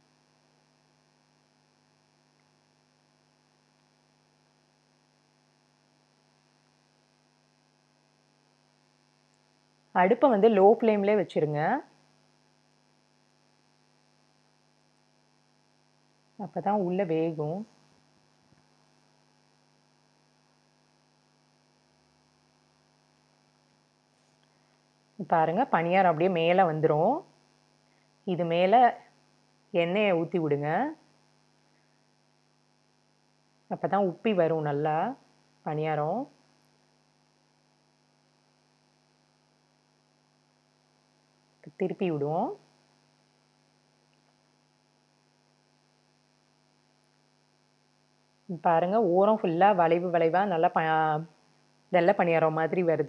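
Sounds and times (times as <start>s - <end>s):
faint electrical hum: 0.0s - 53.0s.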